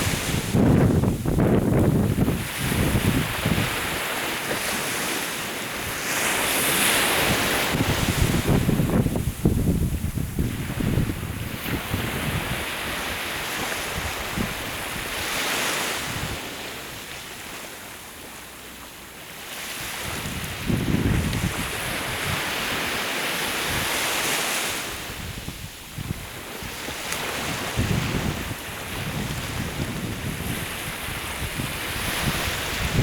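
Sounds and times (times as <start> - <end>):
wind buffeting microphone: 0.0 - 5.1, 5.7 - 16.6, 19.8 - 33.0
sea waves washing on shore: 0.0 - 33.0.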